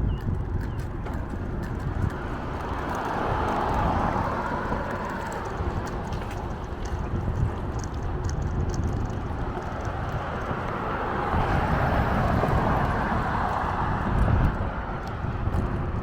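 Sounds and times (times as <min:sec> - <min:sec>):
bicycle road noise: 0:00.0 - 0:16.0
passing vehicle tyre noise: 0:00.0 - 0:16.0
wind buffeting microphone: 0:00.0 - 0:16.0.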